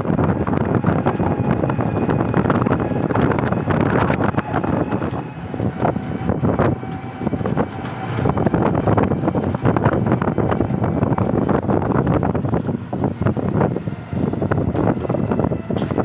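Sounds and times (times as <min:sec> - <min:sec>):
knocks and rattles: 0:00.0 - 0:16.0
vehicle ride noise: 0:00.0 - 0:16.0
wind buffeting microphone: 0:00.0 - 0:16.0.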